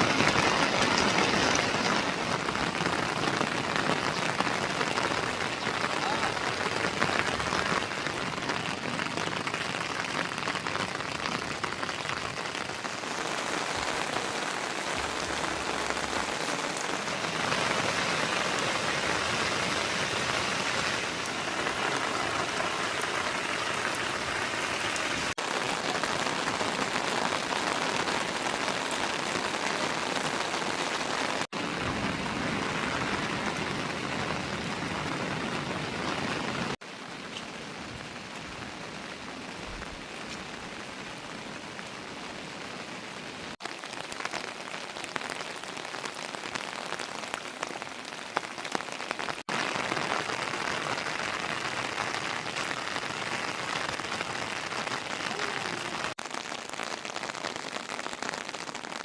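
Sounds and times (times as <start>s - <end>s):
heavy rain spattering: 0.0s - 59.0s.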